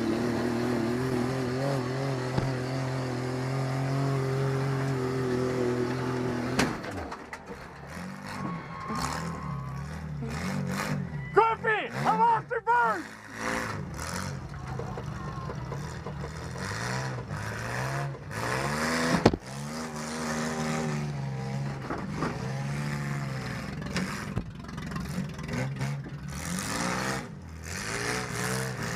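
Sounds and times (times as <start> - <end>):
engine revving: 0.0 - 28.9.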